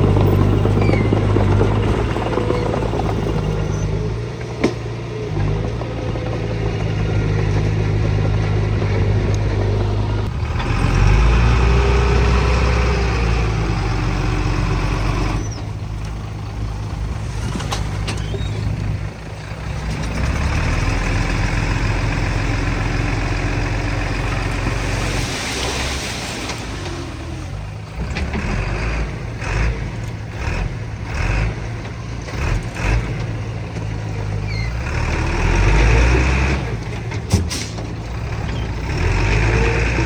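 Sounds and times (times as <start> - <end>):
heavy diesel engines working: 0.0 - 40.0.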